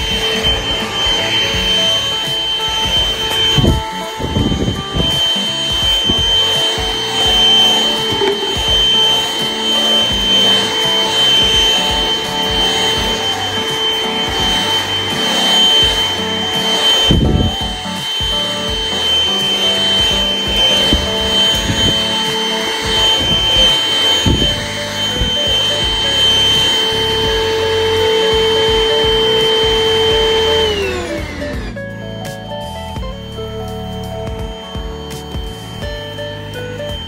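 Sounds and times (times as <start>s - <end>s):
background music: 0.0s - 37.0s
stick vacuum whining: 0.0s - 37.0s.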